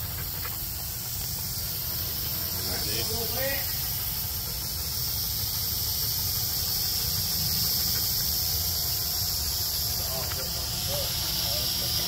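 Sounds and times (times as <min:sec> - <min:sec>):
toy drone buzzing: 0:00.0 - 0:12.0.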